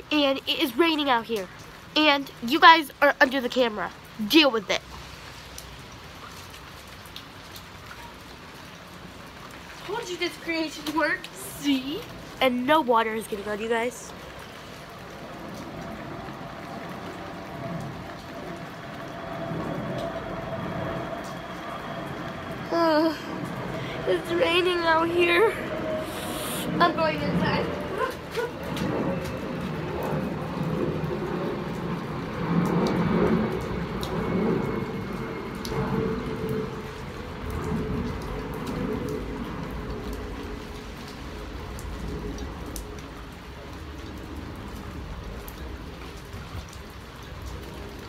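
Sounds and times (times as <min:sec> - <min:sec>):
rain pattering on a cover: 0:00.0 - 0:48.0.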